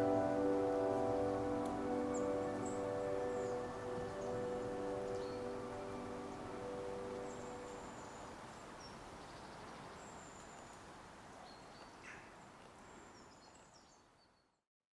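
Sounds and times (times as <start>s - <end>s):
faint outdoor ambience: 0.0s - 14.6s.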